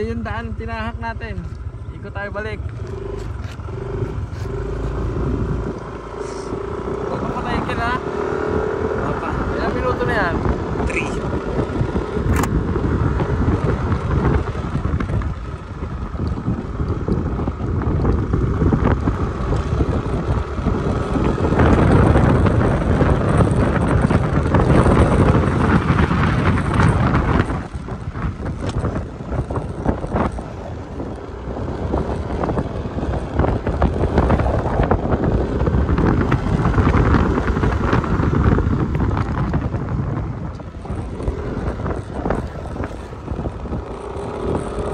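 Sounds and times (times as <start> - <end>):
scooter engine running: 0.0 - 44.9
wind buffeting microphone: 0.0 - 44.9.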